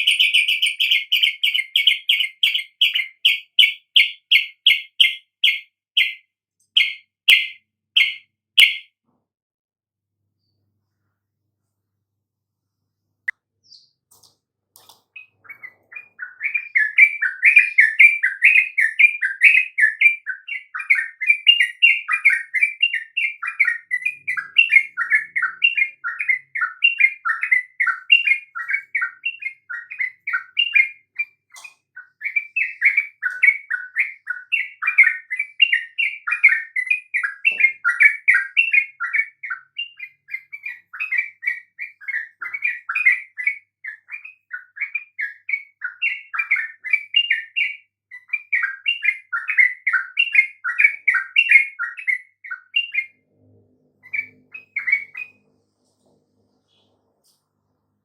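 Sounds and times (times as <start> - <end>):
bird chirping song: 0.0 - 9.0, 10.3 - 11.1, 13.2 - 58.0.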